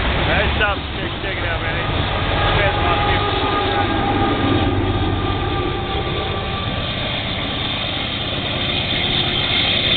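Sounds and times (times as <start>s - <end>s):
diesel locomotive engine humming: 0.0s - 9.9s.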